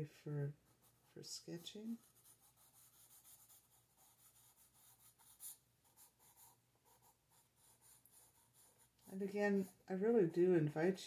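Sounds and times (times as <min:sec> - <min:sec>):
pencil scratching on paper: 0:00.6 - 0:09.9.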